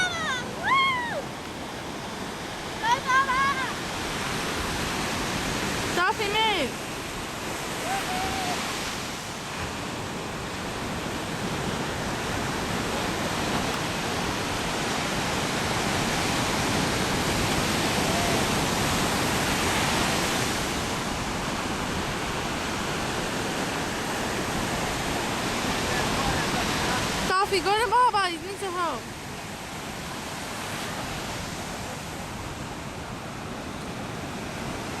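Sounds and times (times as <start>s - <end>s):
ocean surf rushing: 0.0s - 35.0s.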